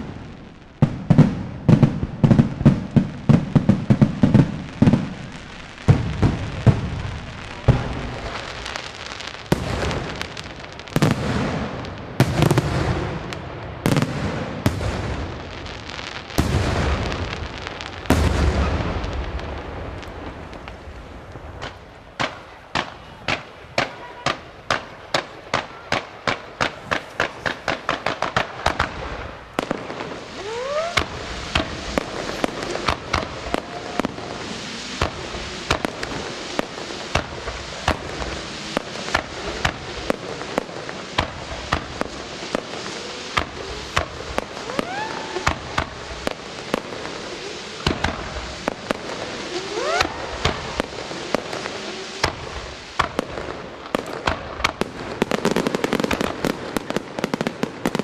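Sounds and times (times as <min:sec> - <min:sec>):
rising firework whistles: 0:00.0 - 0:24.0, 0:26.6 - 0:58.0
firework bangs: 0:00.0 - 0:58.0
firework crackling: 0:00.0 - 0:58.0.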